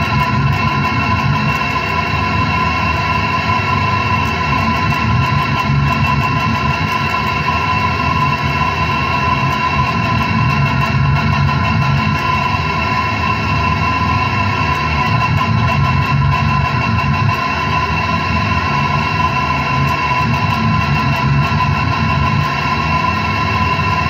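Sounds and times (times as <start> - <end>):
distorted electric guitar riffing: 0.0 - 24.0.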